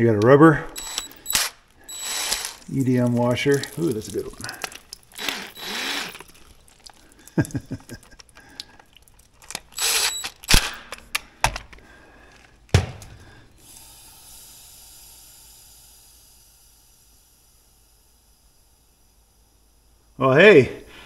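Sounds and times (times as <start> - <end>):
faint steady hiss: 0.0 - 10.1, 11.2 - 21.0.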